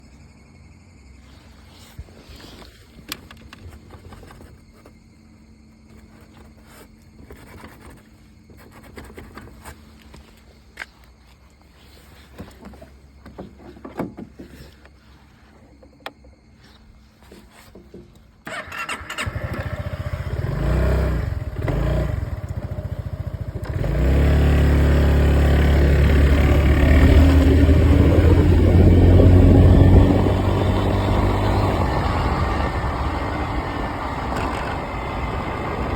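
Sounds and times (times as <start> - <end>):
scooter engine starting and running: 1.8 - 35.9.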